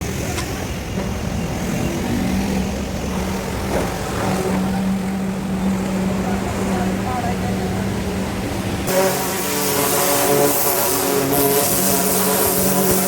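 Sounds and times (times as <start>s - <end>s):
noisy rush: 0.0s - 13.0s
pressure washer machine hum: 0.0s - 13.0s.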